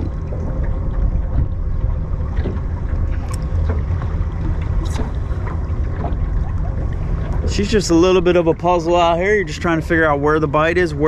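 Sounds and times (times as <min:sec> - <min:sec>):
boat motor idling: 0:00.0 - 0:11.0
wind on microphone: 0:00.0 - 0:11.0.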